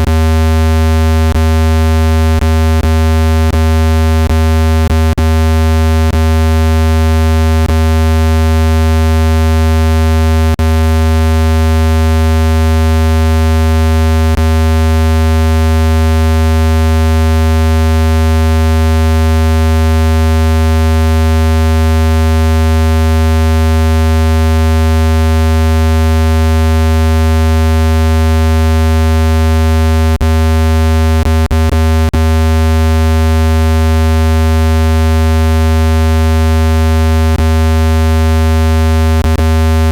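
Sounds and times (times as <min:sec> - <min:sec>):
low buzzing tone: 0:00.0 - 0:39.9.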